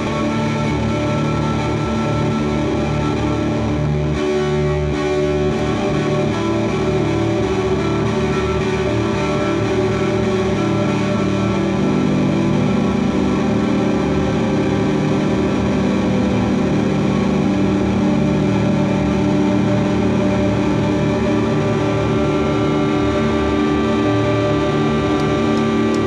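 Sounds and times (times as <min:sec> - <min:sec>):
sustained electric guitar tones: 0:00.0 - 0:26.0.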